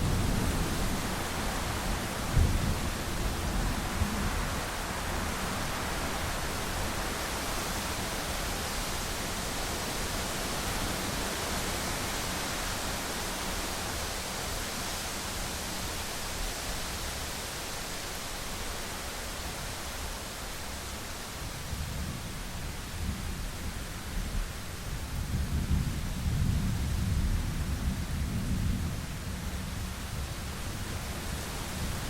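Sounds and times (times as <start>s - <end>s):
steady rainfall hiss: 0.0s - 32.0s.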